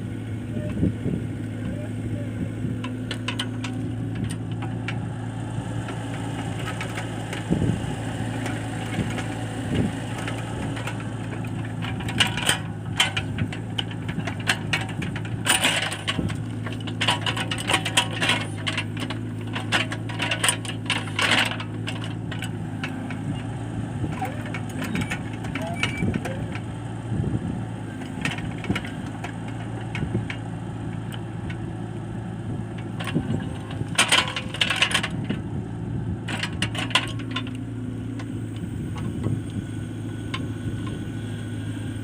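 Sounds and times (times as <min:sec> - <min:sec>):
diesel engine running: 0:00.0 - 0:42.0
metallic clanking and rattling: 0:02.8 - 0:26.9, 0:27.7 - 0:31.8, 0:32.6 - 0:35.5, 0:36.2 - 0:41.1.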